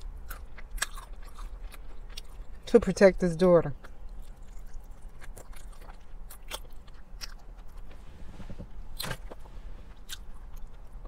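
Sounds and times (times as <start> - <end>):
chewing fried chicken: 0.0 - 8.0, 8.9 - 11.0.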